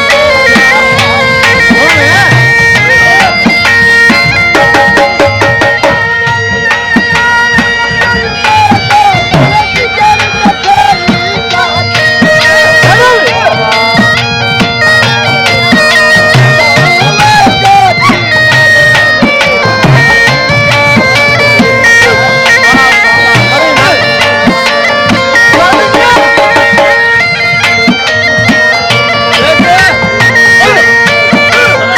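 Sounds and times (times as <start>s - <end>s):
reedy wind instrument melody: 0.0s - 31.9s
regular drumbeat: 0.0s - 31.9s.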